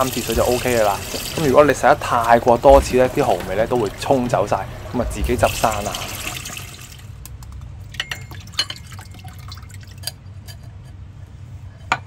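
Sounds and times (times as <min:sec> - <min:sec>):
water drips and light taps: 0:00.0 - 0:10.0
tap water running: 0:00.0 - 0:10.1.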